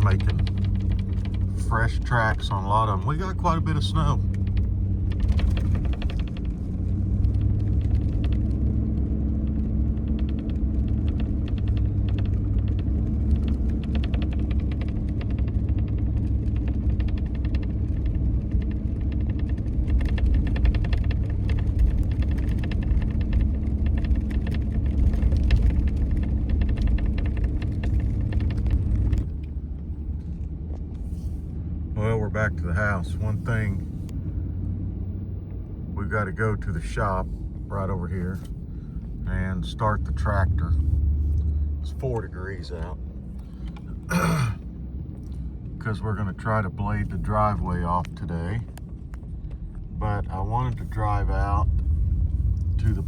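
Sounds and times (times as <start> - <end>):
truck engine and road rumble: 0.0 - 53.0.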